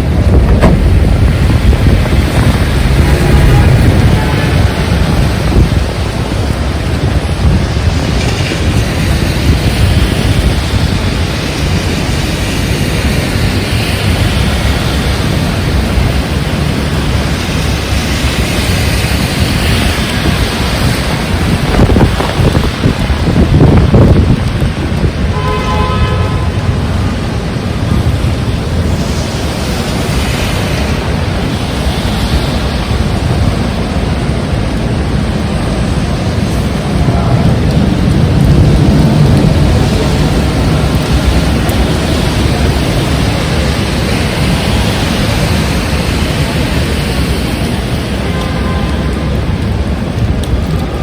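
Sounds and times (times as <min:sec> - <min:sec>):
heavy rain hissing: 0:00.0 - 0:51.0
strong wind buffeting microphone: 0:00.0 - 0:51.0.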